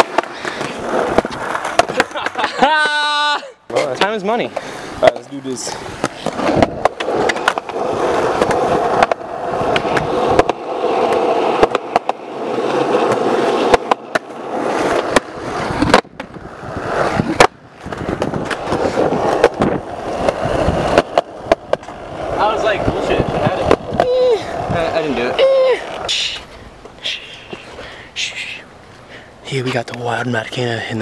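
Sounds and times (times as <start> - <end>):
skateboard clacks: 0.0 - 3.0, 3.7 - 27.7
skateboard wheels rolling on concrete: 0.0 - 31.0.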